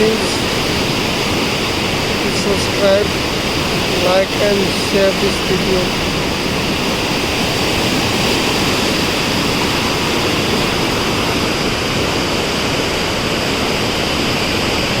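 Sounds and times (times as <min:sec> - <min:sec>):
floodwater rushing roar: 0:00.0 - 0:15.0.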